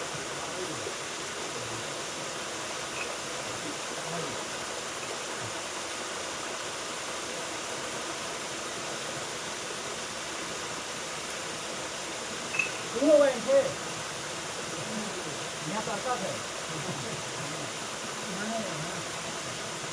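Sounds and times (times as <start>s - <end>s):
waterfall rushing and splashing: 0.0s - 19.9s.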